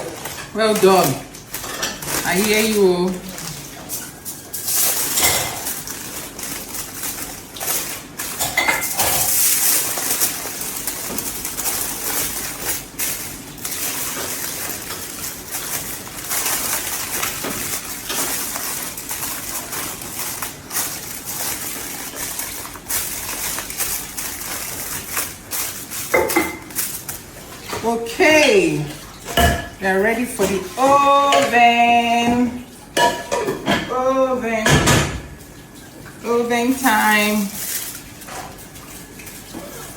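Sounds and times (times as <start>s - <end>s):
utensils and dishes clinking: 0.0s - 39.9s.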